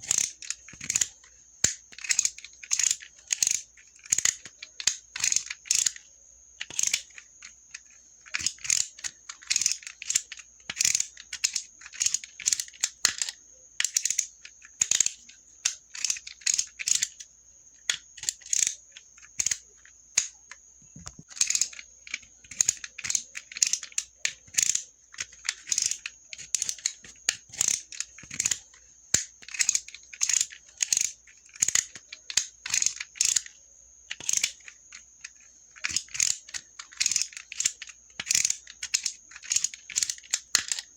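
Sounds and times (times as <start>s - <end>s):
utility knife rasping clicks: 0.0s - 6.0s, 6.6s - 20.3s, 21.0s - 33.5s, 34.1s - 40.9s.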